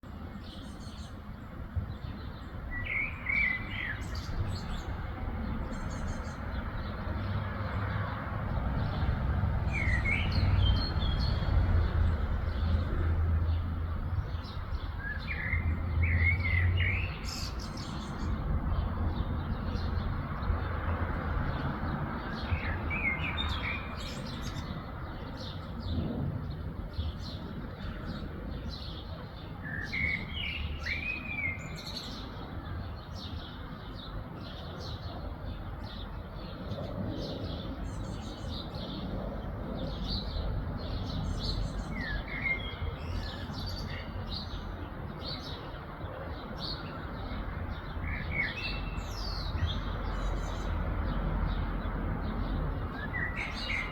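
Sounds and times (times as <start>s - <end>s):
birds chirping: 0.0s - 20.7s, 21.5s - 53.9s.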